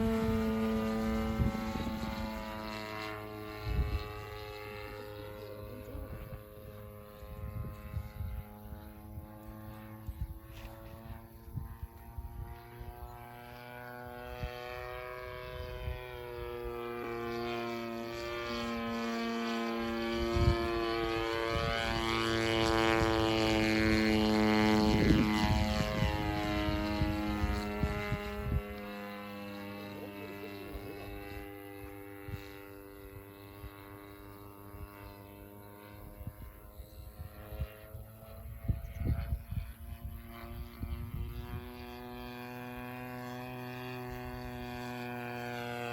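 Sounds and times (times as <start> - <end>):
model plane engine and propeller: 0.0 - 45.9.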